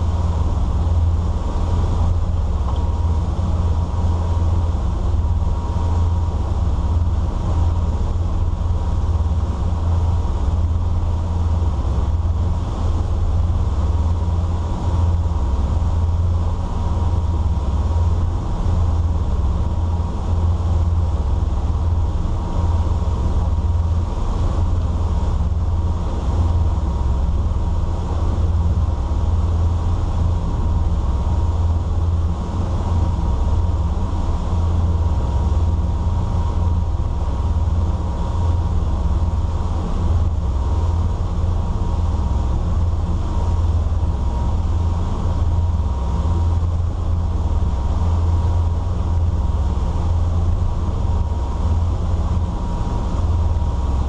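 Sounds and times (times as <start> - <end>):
boat engines droning: 0.0 - 54.0
water rushing against hull: 0.0 - 54.0.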